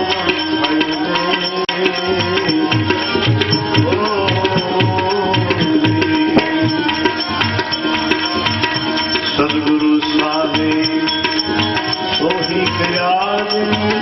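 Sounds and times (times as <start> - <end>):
tabla beat: 0.0 - 14.0.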